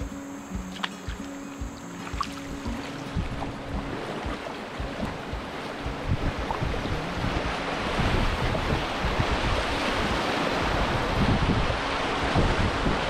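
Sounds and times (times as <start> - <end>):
river water rushing over rocks: 0.0 - 13.0
wind buffeting microphone: 0.0 - 13.0.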